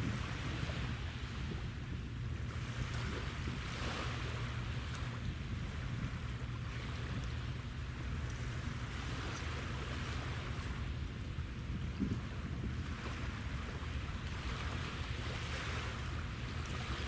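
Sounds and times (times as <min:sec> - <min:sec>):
wind noise: 0:00.0 - 0:15.9
small waves washing: 0:00.0 - 0:17.0.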